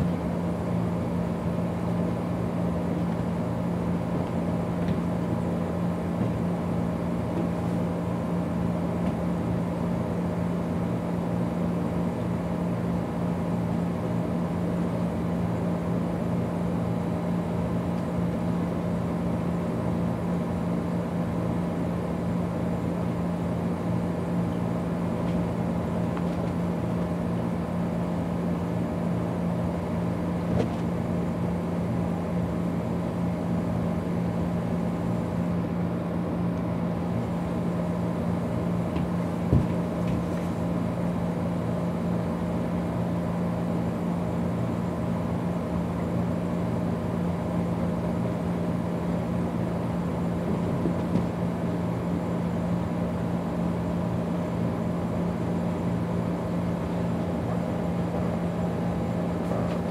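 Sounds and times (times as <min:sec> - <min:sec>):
low mechanical hum with hiss: 0:00.0 - 0:59.9.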